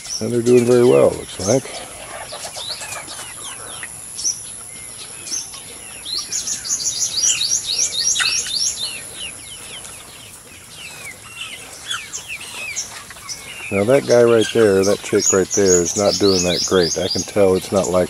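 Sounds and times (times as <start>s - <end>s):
young chickens peeping: 0.0s - 18.0s.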